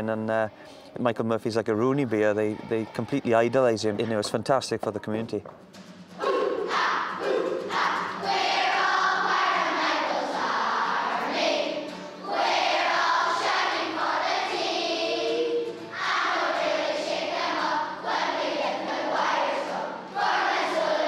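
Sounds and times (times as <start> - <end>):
children chanting and singing: 0.3 - 4.2, 6.2 - 21.0.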